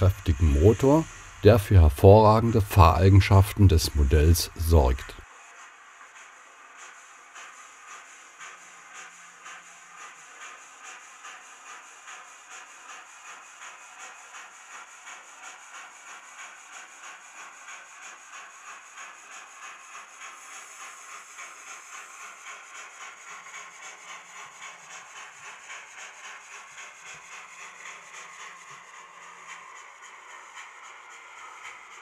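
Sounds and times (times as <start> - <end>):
model steam locomotive chuffing: 0.0 - 32.0.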